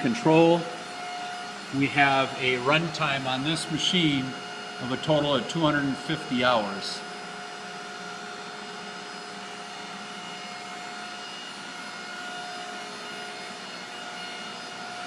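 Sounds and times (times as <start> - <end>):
grinding machine idling: 0.0 - 15.0.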